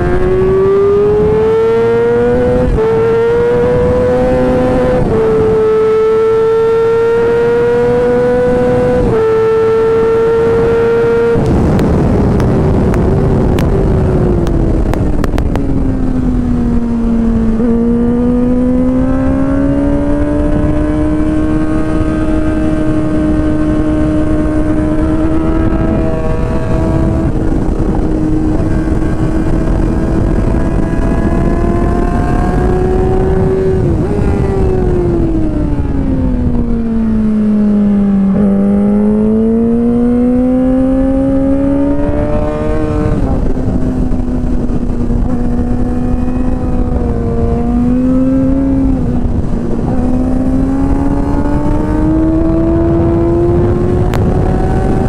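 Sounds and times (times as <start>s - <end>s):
heavy wind noise: 0.0s - 55.0s
motorcycle engine at high revs: 0.0s - 55.0s.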